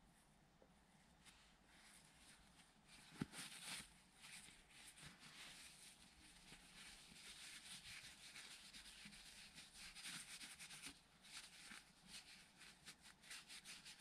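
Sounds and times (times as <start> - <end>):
faint rubbing and scraping: 1.1 - 14.0.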